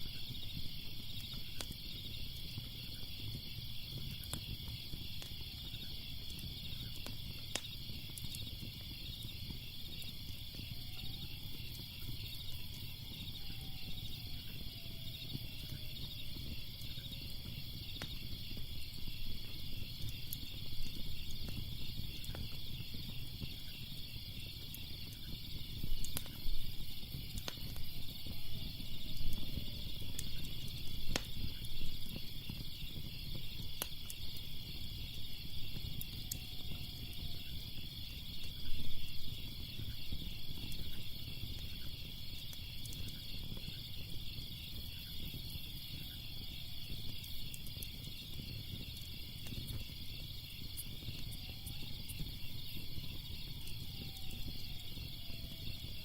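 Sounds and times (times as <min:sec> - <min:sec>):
crickets chirping: 0:00.0 - 0:56.0
fire crackling and popping: 0:00.0 - 0:56.0.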